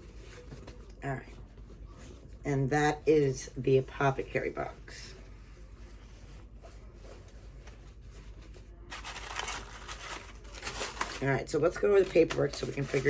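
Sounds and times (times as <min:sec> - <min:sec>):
paper rustling and crinkling: 0:00.0 - 0:02.4, 0:03.8 - 0:13.0.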